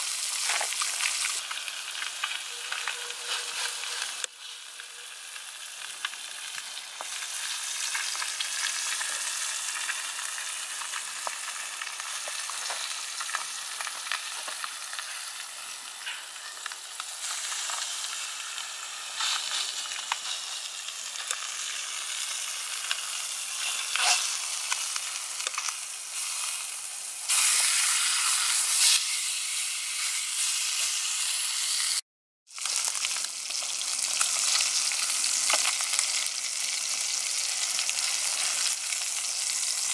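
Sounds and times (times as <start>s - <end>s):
fish frying in oil: 0.0s - 39.9s.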